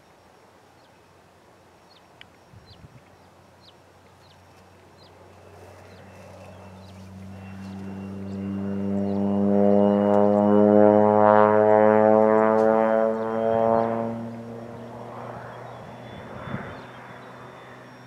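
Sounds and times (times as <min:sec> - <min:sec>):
high turbine whine: 0:00.0 - 0:18.0
propeller plane drone: 0:00.0 - 0:18.0.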